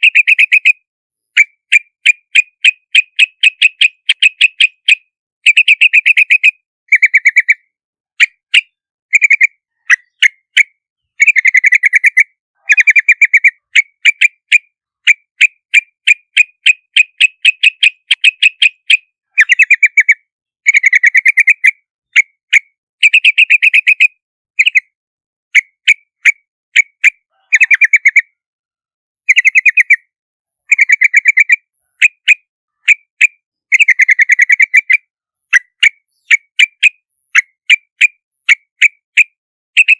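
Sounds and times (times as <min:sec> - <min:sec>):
bird chattering calls: 0:00.0 - 0:00.8, 0:01.4 - 0:22.3, 0:25.5 - 0:28.4, 0:29.3 - 0:30.1, 0:30.7 - 0:39.9
sharp bird chips: 0:00.0 - 0:00.8, 0:01.4 - 0:22.3, 0:23.0 - 0:24.9, 0:29.3 - 0:30.0, 0:30.7 - 0:39.9.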